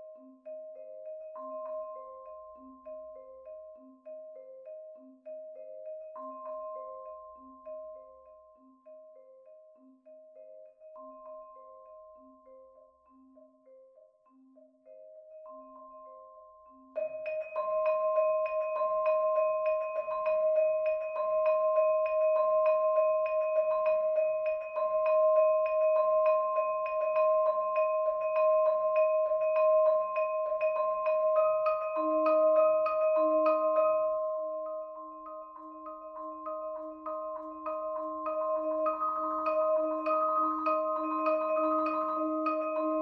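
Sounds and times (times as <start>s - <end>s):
marimba and vibraphone piece: 0.0s - 43.0s.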